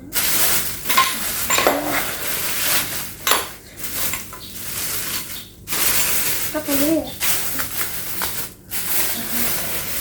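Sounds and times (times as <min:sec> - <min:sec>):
plastic packaging rustling: 0:00.0 - 0:10.0.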